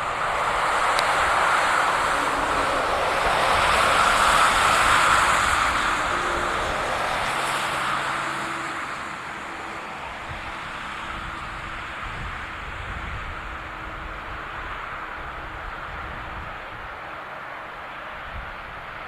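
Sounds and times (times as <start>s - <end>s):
jet engines roaring: 0.0s - 18.2s.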